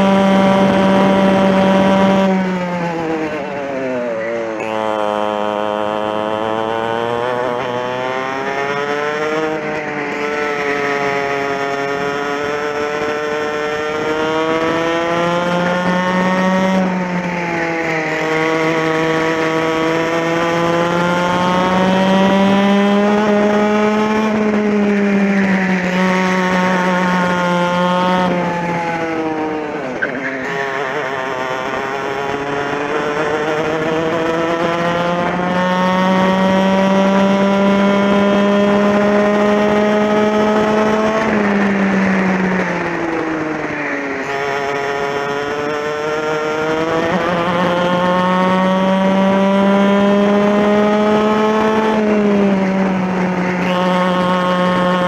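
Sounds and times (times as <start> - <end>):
two-stroke kart engine racing: 0.0 - 55.0.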